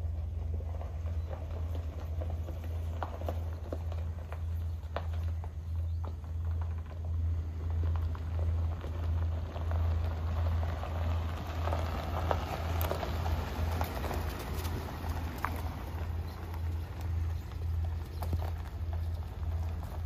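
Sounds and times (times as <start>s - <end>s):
light scattered patter: 0.0s - 20.0s
truck engine idling: 0.0s - 20.0s.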